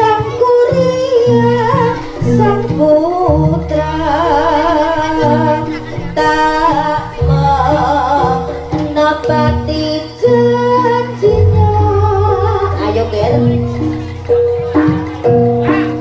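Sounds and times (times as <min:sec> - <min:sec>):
held steady tones: 0:00.0 - 0:16.0
wavering lead melody: 0:00.0 - 0:16.0
low drum strokes: 0:00.5 - 0:16.0.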